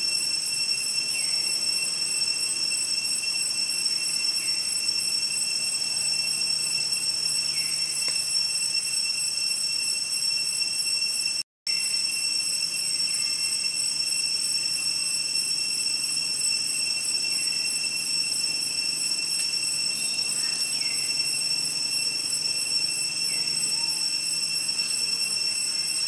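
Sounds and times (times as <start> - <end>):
insect chorus buzzing: 0.0 - 26.0.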